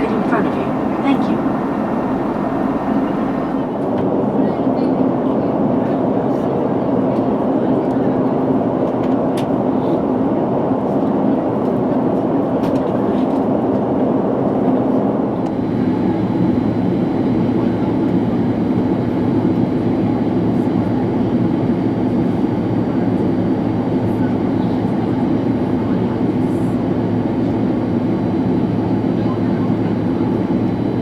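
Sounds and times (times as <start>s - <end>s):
airliner cabin engine rush: 0.0s - 31.0s.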